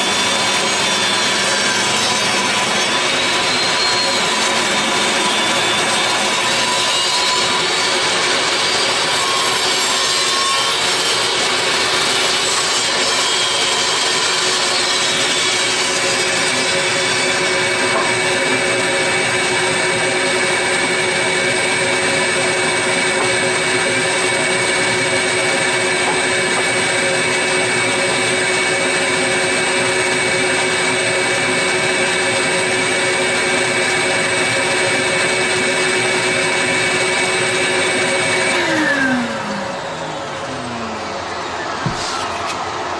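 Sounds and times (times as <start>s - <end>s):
saw blade spinning down: 0.0s - 42.9s
table saw cutting wood: 0.0s - 42.9s.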